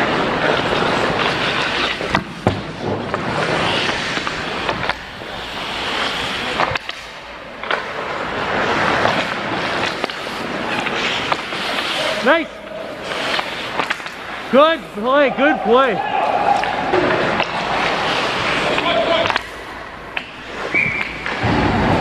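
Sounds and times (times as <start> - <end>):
hockey sticks and puck clacking: 0.0 - 22.0
skate blades scraping ice: 0.0 - 22.0.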